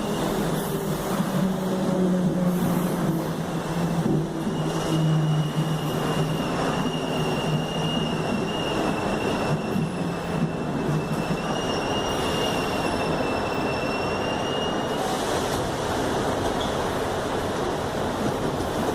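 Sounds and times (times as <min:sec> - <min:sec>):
electric train rumble: 0:00.0 - 0:18.9.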